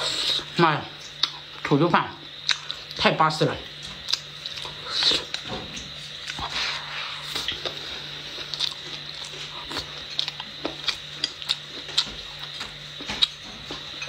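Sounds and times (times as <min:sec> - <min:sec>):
faint steady hum: 0:00.0 - 0:14.0
chewing food: 0:01.0 - 0:03.0, 0:03.6 - 0:14.0.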